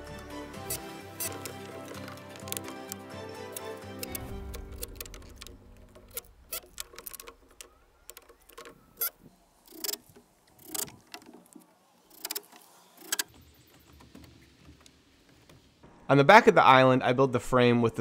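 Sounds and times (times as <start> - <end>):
screws and lumber knocking: 0.0 - 15.8.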